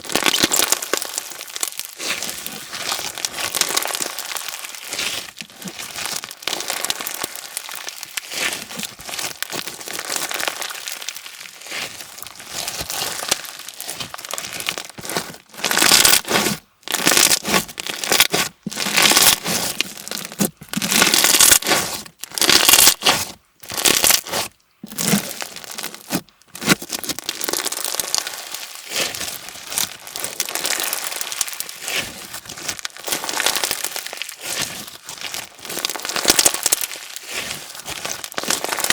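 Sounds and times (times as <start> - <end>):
crunchy slime squeezed by hand: 0.0 - 38.9.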